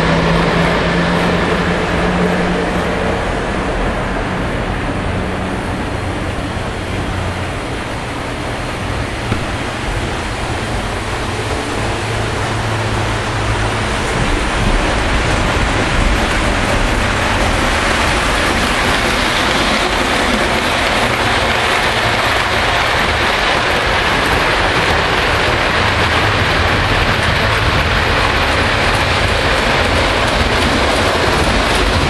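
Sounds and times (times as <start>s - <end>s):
model trains rumbling on track: 0.0s - 32.0s.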